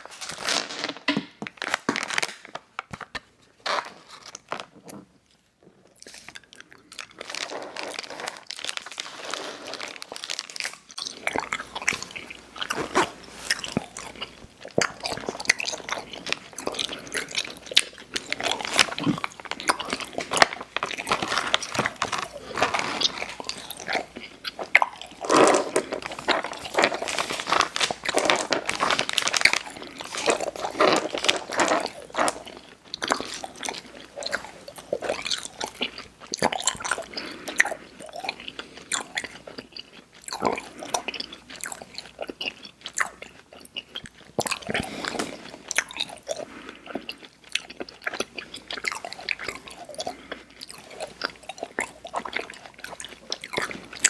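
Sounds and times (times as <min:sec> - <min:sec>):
crunchy bites: 0:09.8 - 0:54.0
wet sticky chewing: 0:10.7 - 0:54.0.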